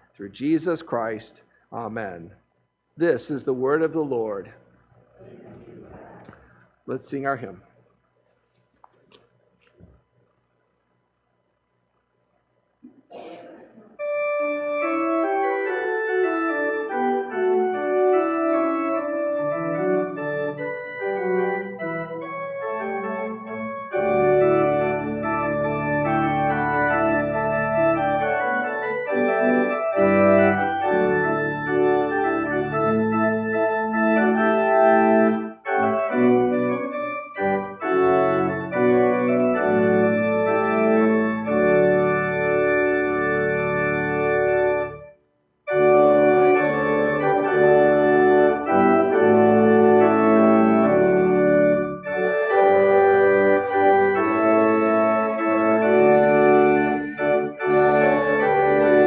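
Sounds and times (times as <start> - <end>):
church organ playing a hymn: 0.0 - 2.3, 3.0 - 4.5, 14.0 - 59.0.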